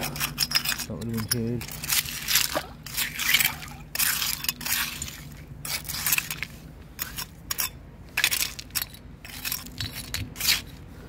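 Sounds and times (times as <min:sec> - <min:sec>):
stones and pottery clinking: 0:00.0 - 0:10.8.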